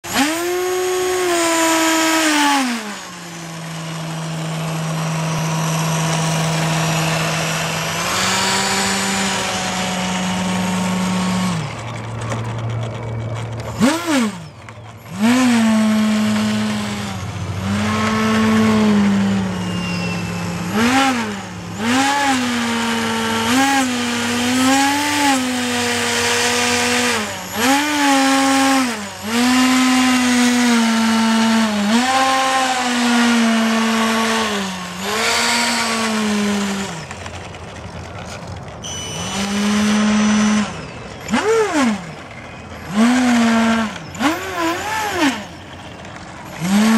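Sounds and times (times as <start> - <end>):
model plane electric motor whine: 0.1 - 46.9.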